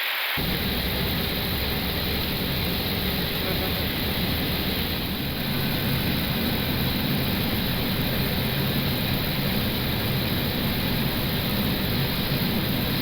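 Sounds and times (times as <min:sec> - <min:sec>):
airflow rushing: 0:00.4 - 0:13.0
low engine hum: 0:00.4 - 0:13.0.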